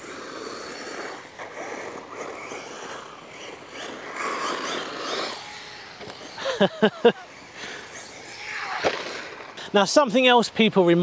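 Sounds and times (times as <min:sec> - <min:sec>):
rc car motor whine: 0:00.0 - 0:09.6.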